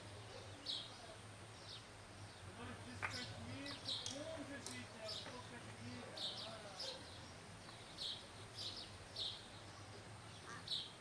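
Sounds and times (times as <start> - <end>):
bird chirping: 0.0 - 11.0
faint outdoor hum: 0.0 - 11.0.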